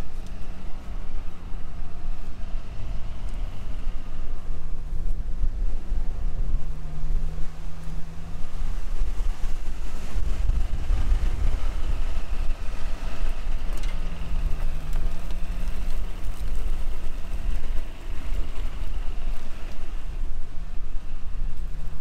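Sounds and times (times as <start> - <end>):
truck engine running: 0.0 - 22.0
wind rumble on microphone: 0.0 - 22.0.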